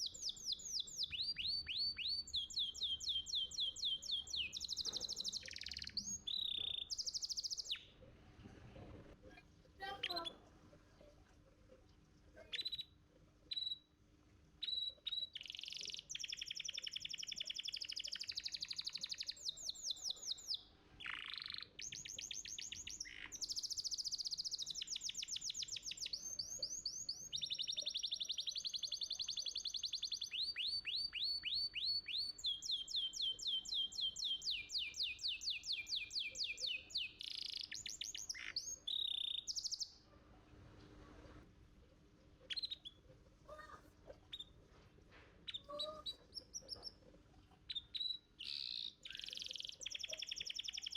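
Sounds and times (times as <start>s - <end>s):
canary chirps and trills: 0.0s - 50.9s.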